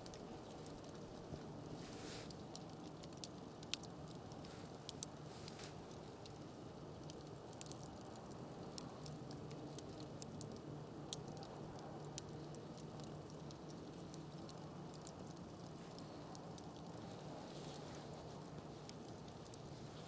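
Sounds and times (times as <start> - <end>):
campfire crackling: 0.0 - 20.0
faint steady hiss: 0.0 - 20.0.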